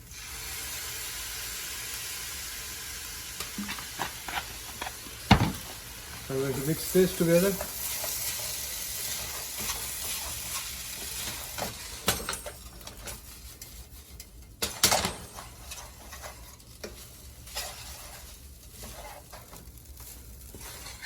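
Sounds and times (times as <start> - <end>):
fried rice sizzling in a pan: 0.0 - 21.0
spatula scraping a pan: 3.3 - 21.0.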